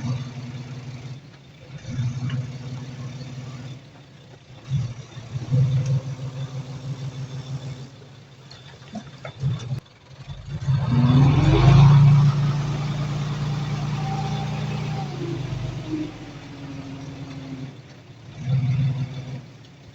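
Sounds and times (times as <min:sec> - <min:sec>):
heavy diesel engine working: 0:00.0 - 0:19.9.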